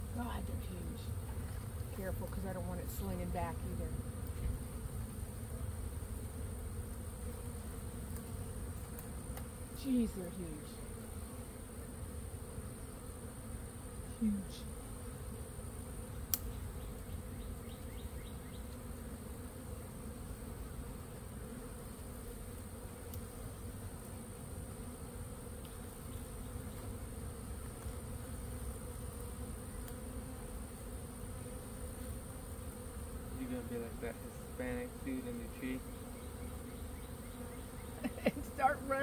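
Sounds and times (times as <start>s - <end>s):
bee swarm humming: 0.0s - 39.0s.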